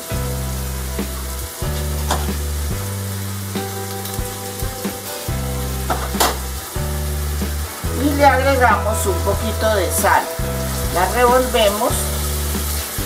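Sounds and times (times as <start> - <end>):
background music with low notes: 0.0 - 13.0
onion and garlic sizzling in oil: 0.0 - 13.0.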